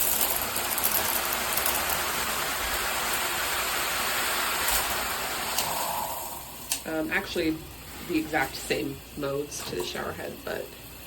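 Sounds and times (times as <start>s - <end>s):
shower head spraying water: 0.0s - 10.6s.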